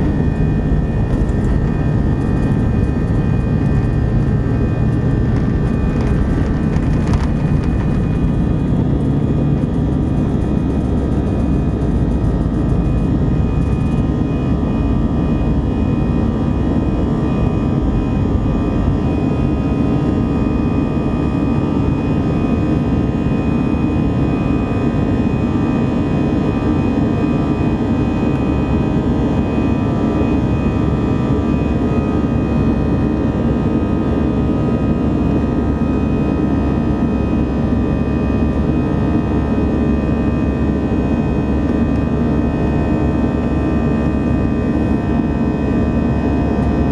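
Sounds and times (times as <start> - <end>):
jet engines roaring: 0.0 - 46.9.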